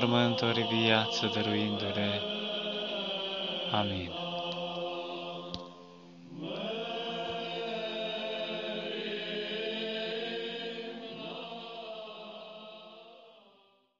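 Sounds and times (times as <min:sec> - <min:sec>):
slow choral chant: 0:00.0 - 0:13.9.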